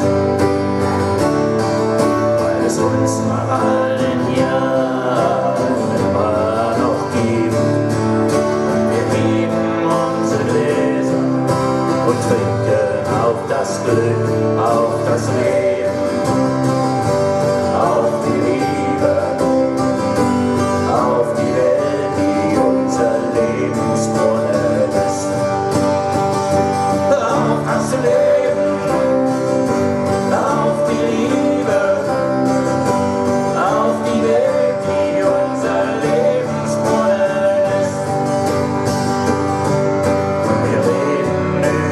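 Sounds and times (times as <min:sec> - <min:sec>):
live band with guitars: 0:00.0 - 0:41.9
person singing: 0:02.1 - 0:25.8, 0:26.5 - 0:39.1, 0:40.2 - 0:41.9.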